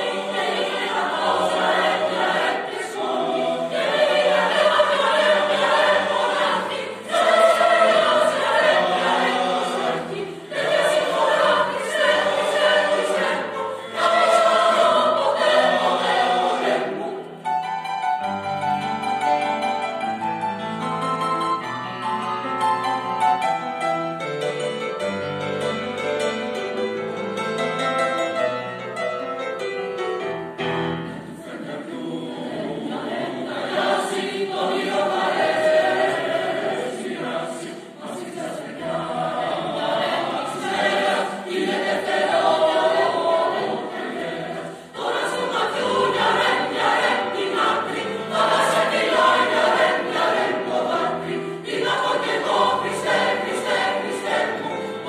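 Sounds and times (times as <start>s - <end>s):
choir singing: 0.0s - 23.6s, 30.3s - 55.0s
grand piano playing: 0.0s - 55.0s.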